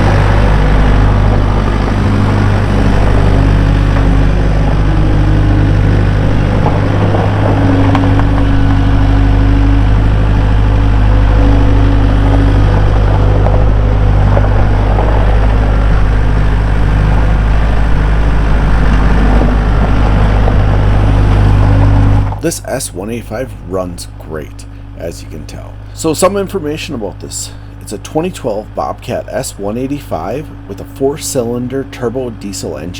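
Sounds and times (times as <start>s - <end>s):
diesel engine running steadily: 0.0s - 32.9s.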